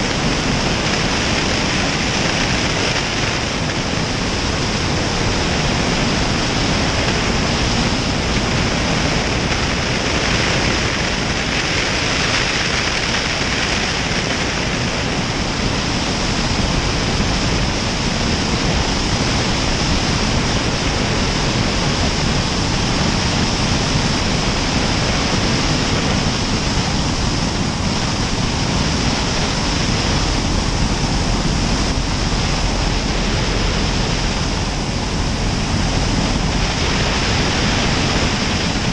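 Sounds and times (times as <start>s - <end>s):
loud rush of airflow: 0.0s - 38.9s.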